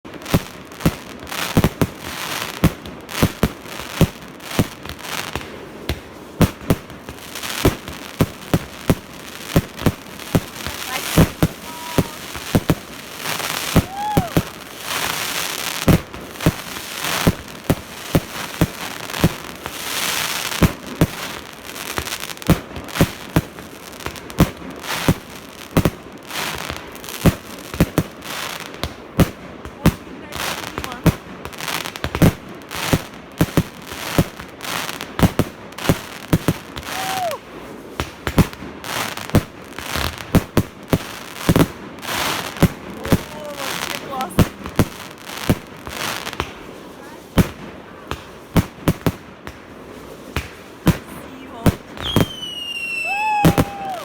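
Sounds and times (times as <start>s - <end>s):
fireworks bangs: 0.1s - 54.0s
fireworks crackling: 0.1s - 54.0s.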